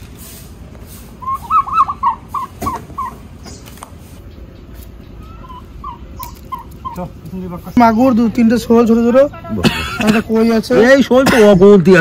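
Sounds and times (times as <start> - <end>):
bird calling: 0.9 - 11.0.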